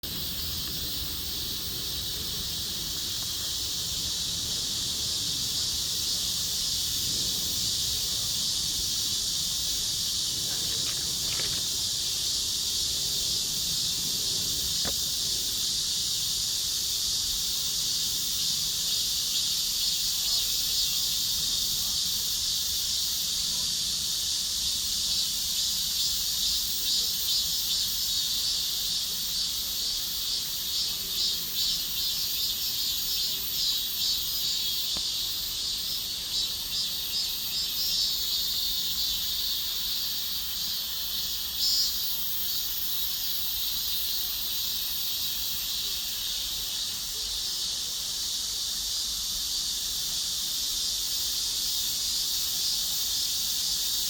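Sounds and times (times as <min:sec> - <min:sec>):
cicadas chorus: 0:00.0 - 0:54.0.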